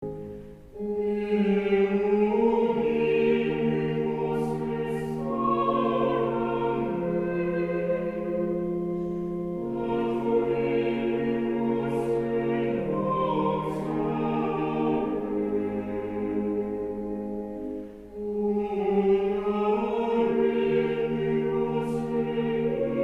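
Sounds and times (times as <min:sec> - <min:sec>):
voices singing sustained chords: 0:00.0 - 0:23.0.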